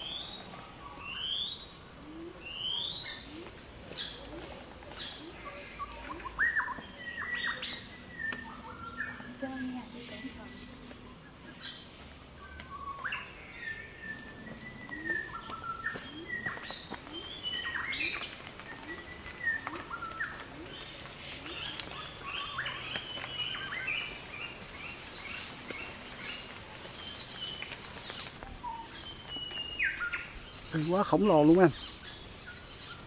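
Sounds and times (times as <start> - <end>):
birds whistling and chirping: 0.0 - 33.0.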